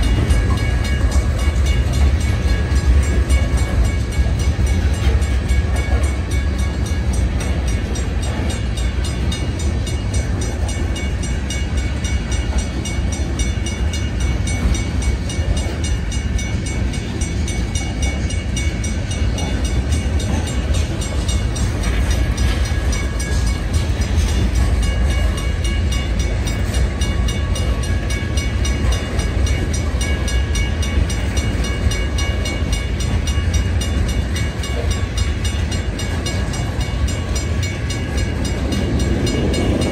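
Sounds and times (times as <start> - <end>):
crossing bell ringing: 0.0 - 39.9
train wheels rumbling on rails: 0.0 - 39.9.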